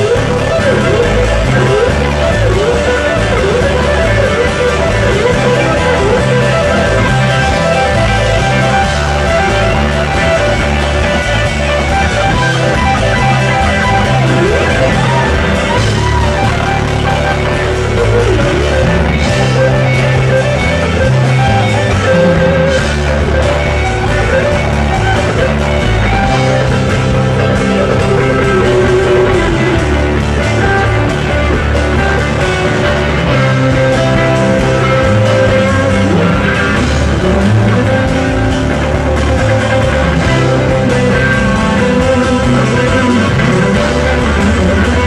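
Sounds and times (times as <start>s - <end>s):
live rock band playing: 0.0s - 45.0s
sliding guitar notes: 0.0s - 45.0s.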